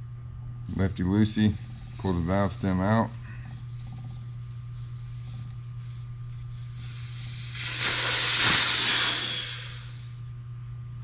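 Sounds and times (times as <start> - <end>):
air hissing out of a tire valve: 1.1 - 10.2.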